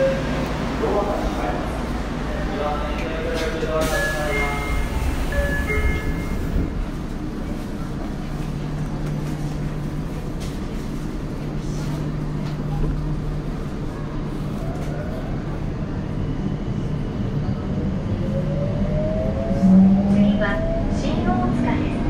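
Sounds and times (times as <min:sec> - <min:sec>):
subway train low hum: 0:00.0 - 0:22.0.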